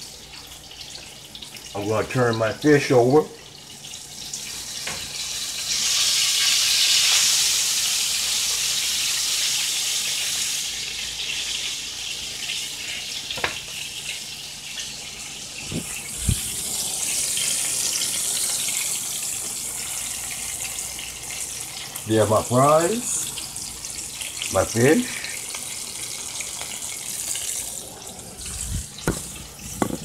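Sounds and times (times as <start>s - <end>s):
fish sizzling in hot oil: 0.0s - 30.0s.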